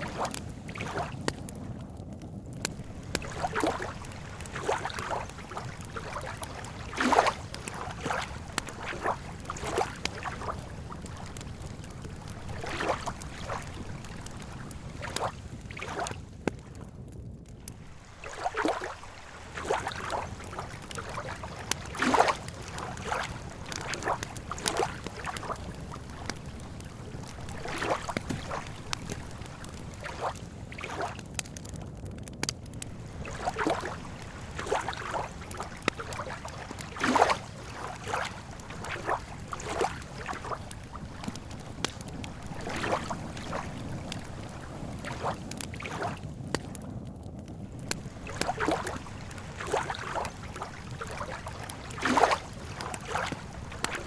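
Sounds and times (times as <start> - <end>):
lake water lapping on shore: 0.0 - 1.8, 2.5 - 16.9, 17.6 - 31.8, 32.7 - 46.8, 47.6 - 54.0
campfire crackling: 0.0 - 54.0.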